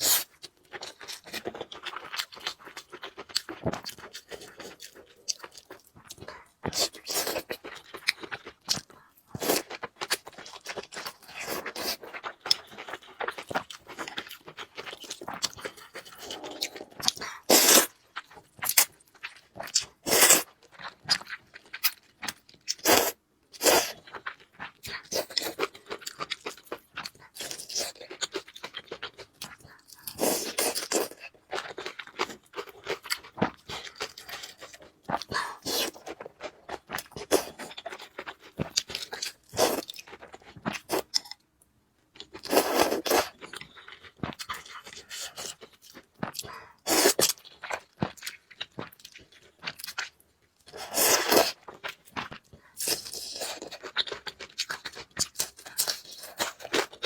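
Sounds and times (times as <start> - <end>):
person chewing and crunching: 0.0 - 41.5, 42.2 - 57.0.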